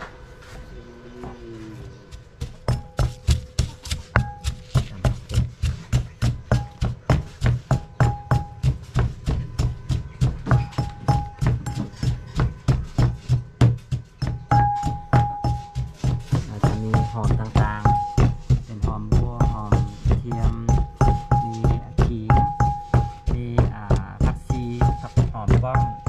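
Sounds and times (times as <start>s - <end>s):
knife chopping on wooden board: 2.1s - 26.0s.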